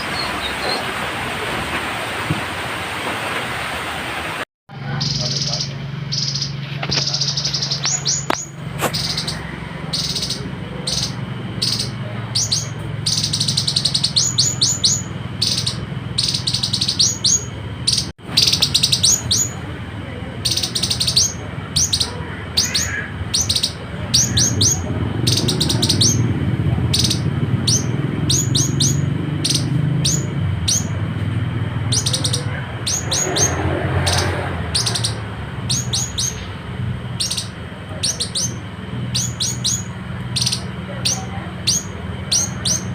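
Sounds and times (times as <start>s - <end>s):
steady low hum: 4.7s - 42.9s.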